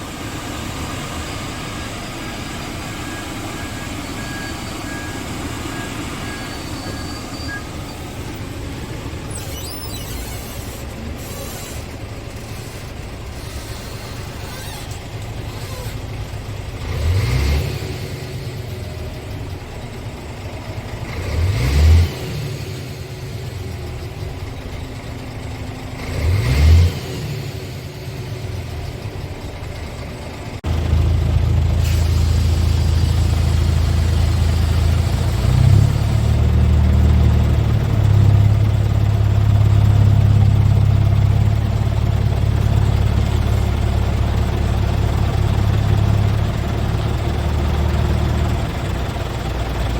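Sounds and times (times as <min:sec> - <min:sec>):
diesel engine idling and revving: 0:00.0 - 0:49.9.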